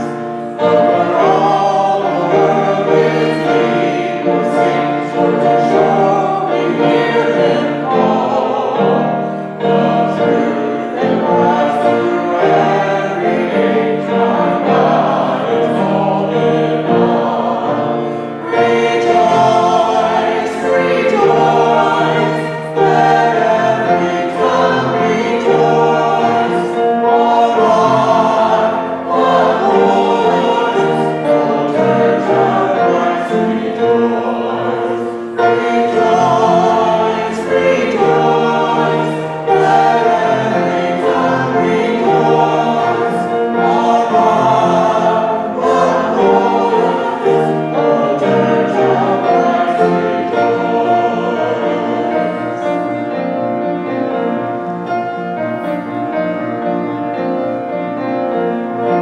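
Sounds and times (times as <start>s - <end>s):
group singing praise song: 0.0s - 53.3s.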